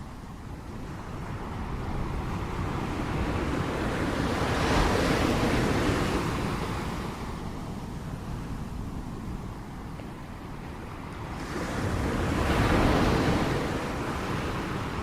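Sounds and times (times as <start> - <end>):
ocean waves crashing on shore: 0.0 - 15.0.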